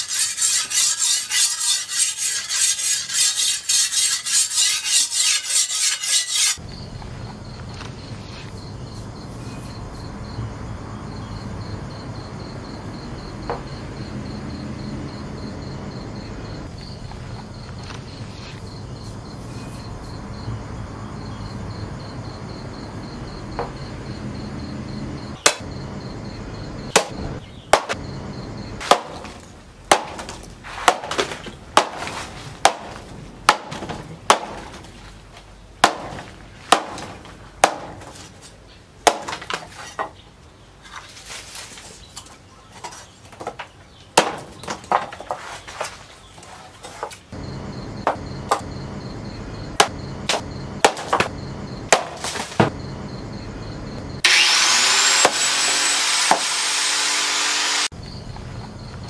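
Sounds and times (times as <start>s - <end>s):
crickets chirping: 0.0s - 54.3s, 57.8s - 59.0s.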